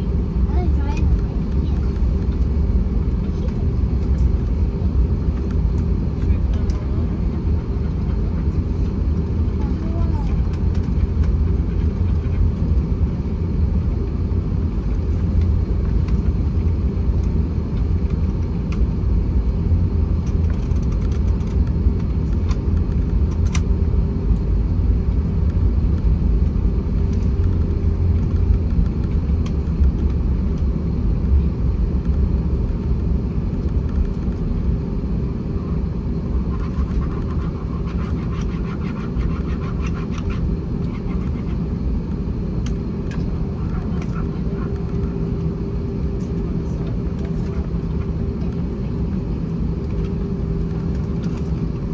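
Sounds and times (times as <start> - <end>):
jet engine cabin rumble: 0.0 - 51.9.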